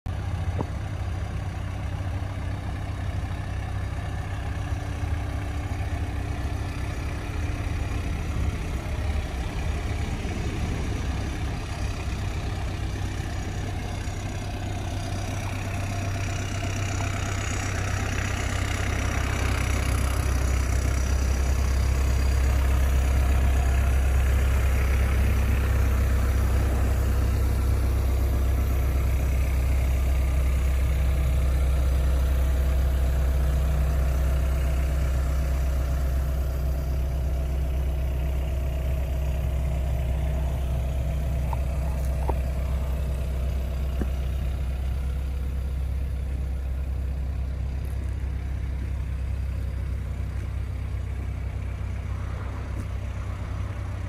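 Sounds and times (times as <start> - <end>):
diesel engine idling: 0.1 - 54.0.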